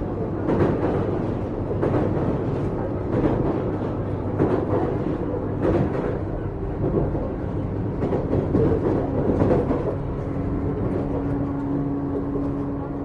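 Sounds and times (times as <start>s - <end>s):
low train hum: 0.0s - 13.0s
train wheels rumbling on rail: 0.0s - 13.0s.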